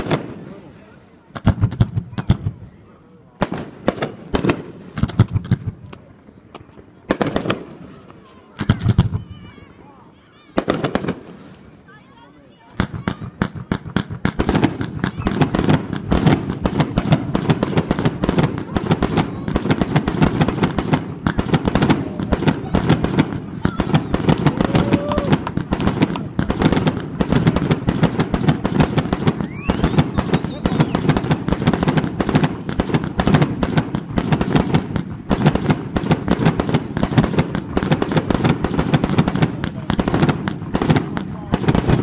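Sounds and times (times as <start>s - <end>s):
fireworks crackling bangs: 0.0s - 42.0s.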